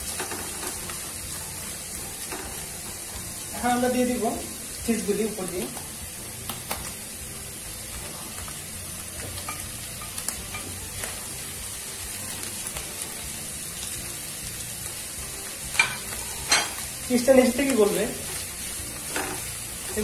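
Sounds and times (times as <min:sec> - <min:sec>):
mushrooms sizzling in butter: 0:00.0 - 0:20.0.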